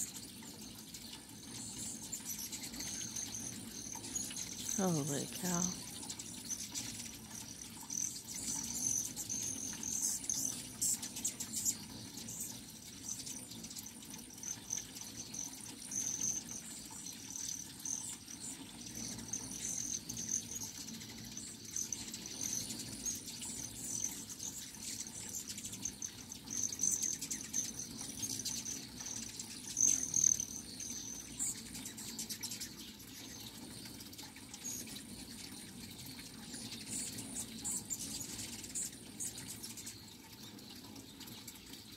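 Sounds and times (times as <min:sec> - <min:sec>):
buzz of hovering wings: 0:00.0 - 0:39.8
hummingbirds chipping and twittering: 0:00.0 - 0:41.9.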